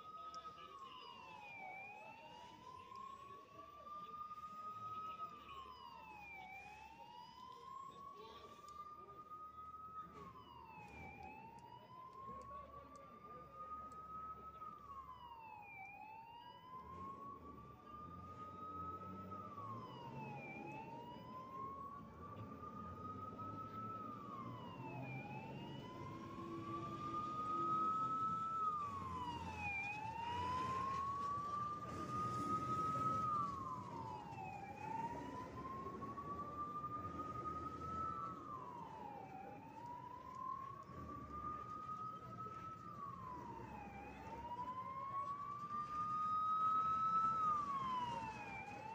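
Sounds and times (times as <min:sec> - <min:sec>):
fire engine siren wailing: 0:00.0 - 0:48.9.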